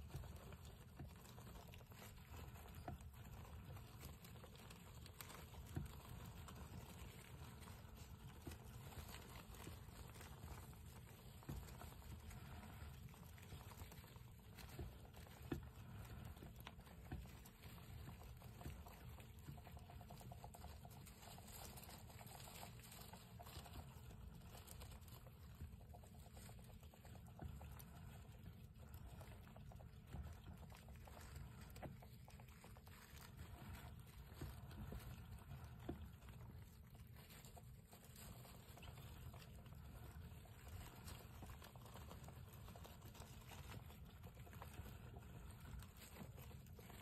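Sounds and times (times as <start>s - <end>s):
mice scurrying and scratching: 0.0s - 47.0s.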